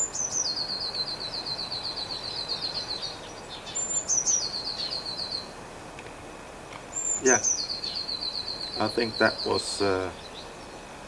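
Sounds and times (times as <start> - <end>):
songbird singing trills: 0.0 - 5.5, 6.9 - 10.9.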